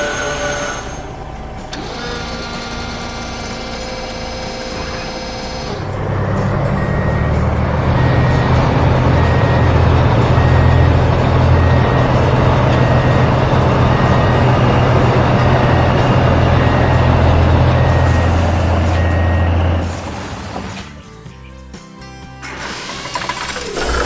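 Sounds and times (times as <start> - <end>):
reversing alarm beeping: 0.0 - 20.7, 23.2 - 24.0
diesel engine rumbling: 0.0 - 24.0.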